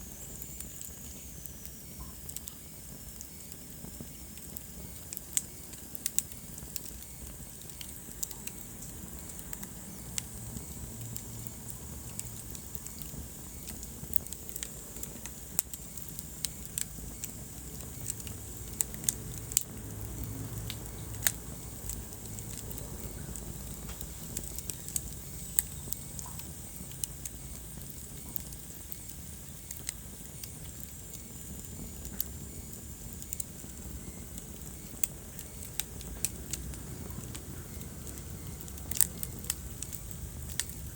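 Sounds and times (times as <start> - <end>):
flames rumbling: 0.0 - 40.9
logs popping and crackling: 0.0 - 40.9.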